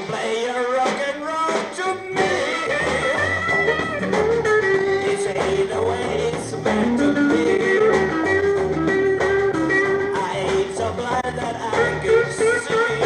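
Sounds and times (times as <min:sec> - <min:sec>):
rock band playing live: 0:00.0 - 0:13.0
sliding lead guitar line: 0:01.7 - 0:13.0.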